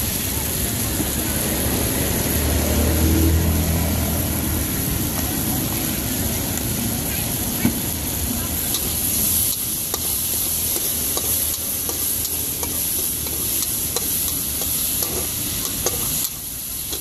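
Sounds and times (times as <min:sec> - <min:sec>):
food sizzling: 0:00.0 - 0:17.0.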